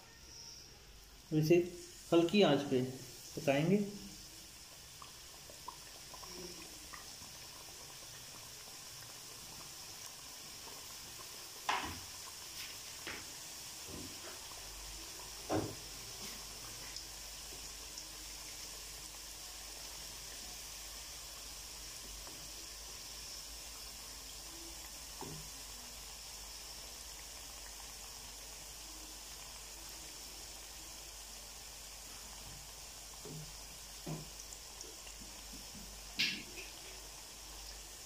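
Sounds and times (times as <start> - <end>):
oil bubbling and sizzling: 0.0 - 38.0.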